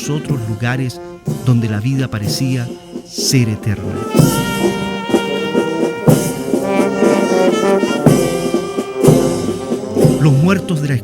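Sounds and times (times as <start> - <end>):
brass band playing held chords: 0.0 - 11.0.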